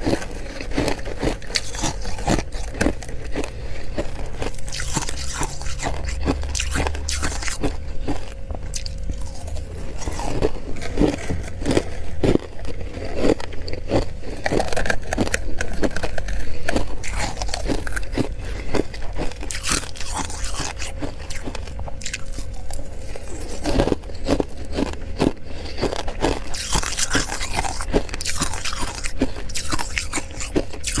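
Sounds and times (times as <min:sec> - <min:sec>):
person chewing crunchy frost: 0:00.0 - 0:31.0.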